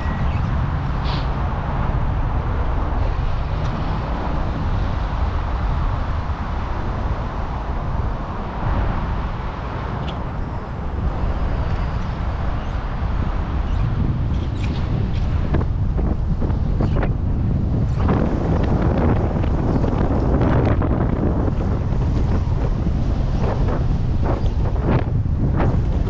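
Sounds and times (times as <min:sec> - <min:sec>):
road traffic: 0:00.0 - 0:26.0
wind rumbling on microphone: 0:00.0 - 0:26.0.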